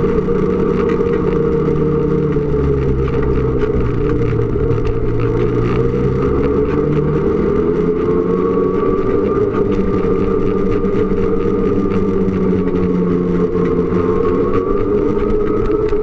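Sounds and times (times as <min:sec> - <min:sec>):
snowmobile engine drone: 0:00.0 - 0:16.0.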